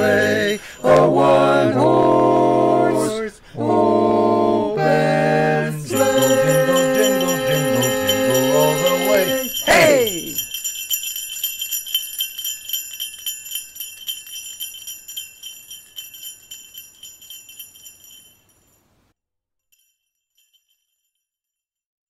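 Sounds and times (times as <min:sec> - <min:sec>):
sleigh bells jingling: 0:00.0 - 0:03.8, 0:05.8 - 0:18.9, 0:19.7 - 0:21.3.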